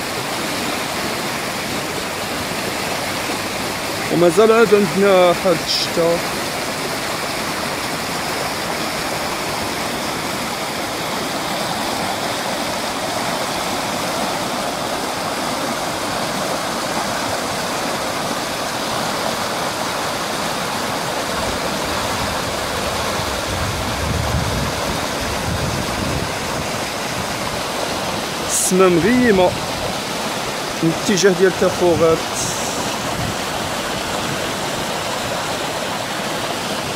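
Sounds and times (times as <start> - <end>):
floodwater rushing: 0.0 - 36.9.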